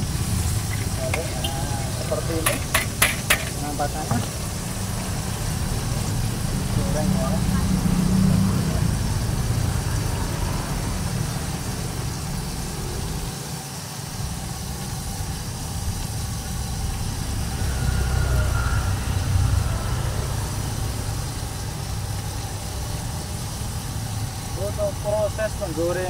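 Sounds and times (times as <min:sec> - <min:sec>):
fish frying in hot oil: 0:00.0 - 0:26.0.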